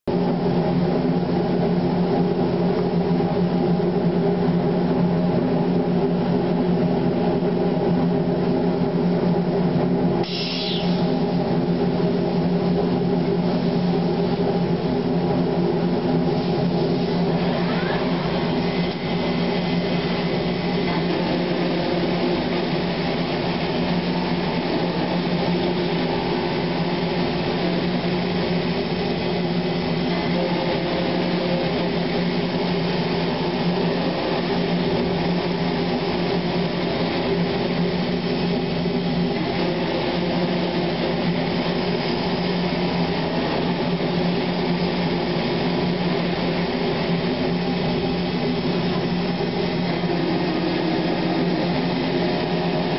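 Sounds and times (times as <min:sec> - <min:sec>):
industrial machinery humming: 0:00.0 - 0:52.9.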